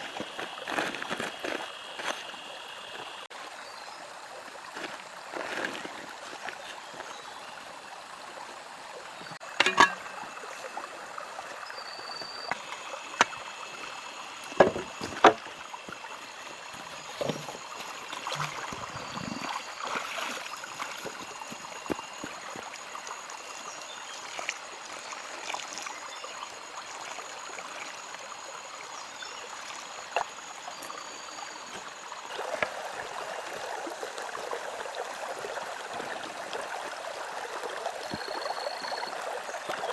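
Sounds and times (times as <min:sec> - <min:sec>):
rushing like a flowing stream: 0:00.0 - 0:39.9.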